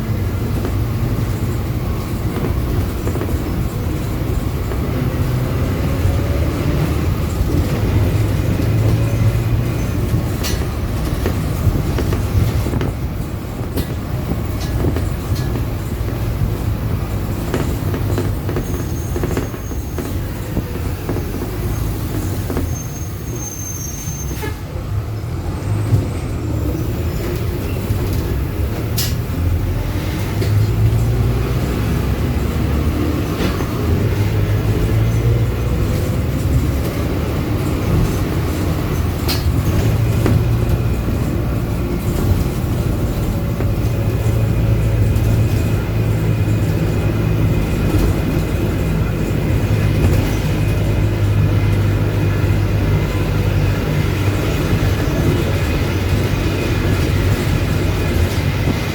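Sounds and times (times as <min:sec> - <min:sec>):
rattles and clicks: 0:00.0 - 0:23.3, 0:33.2 - 0:58.9
bus drivetrain rumble: 0:00.0 - 0:58.9.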